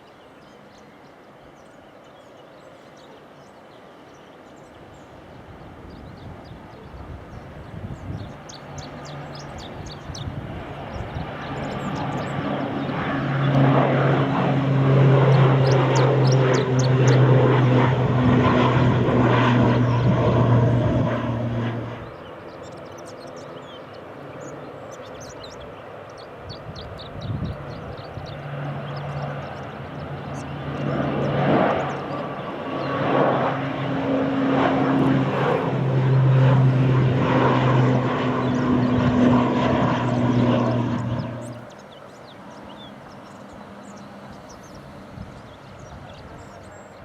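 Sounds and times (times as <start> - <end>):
propeller airliner passing: 0.0 - 47.0.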